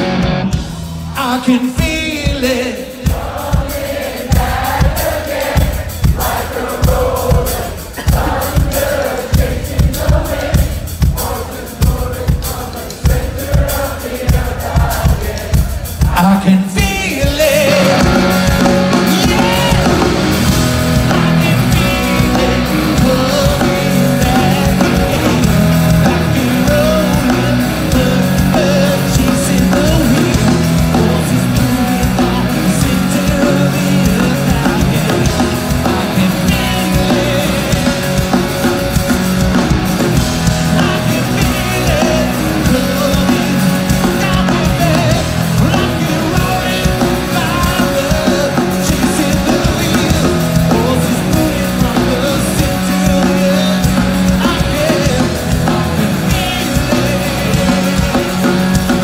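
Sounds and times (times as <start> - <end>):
electric guitars: 0.0 - 2.7, 4.3 - 59.0
live rock band: 0.0 - 59.0
man singing lead vocal: 0.0 - 59.0
steady drum beat: 0.0 - 59.0.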